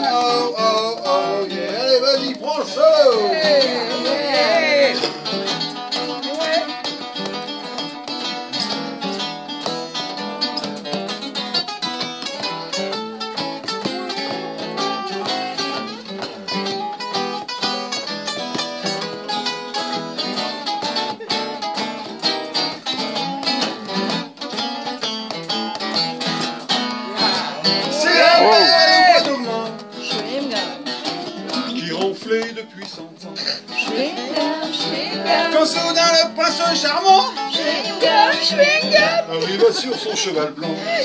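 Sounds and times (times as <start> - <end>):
acoustic guitar blues solo: 0.0 - 41.0
strummed rhythm guitar: 0.0 - 41.0.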